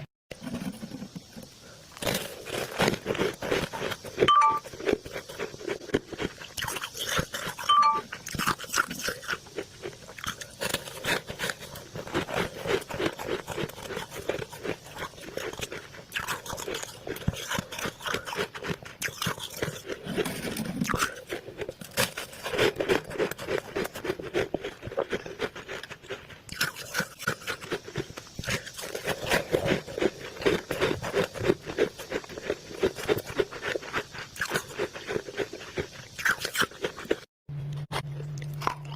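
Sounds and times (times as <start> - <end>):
person crunching ice: 1.9 - 37.3.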